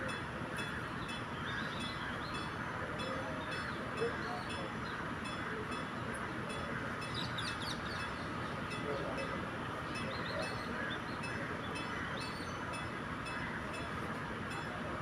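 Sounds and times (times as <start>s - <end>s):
diesel train running: 0.0s - 15.0s
birds chirping: 0.1s - 15.0s.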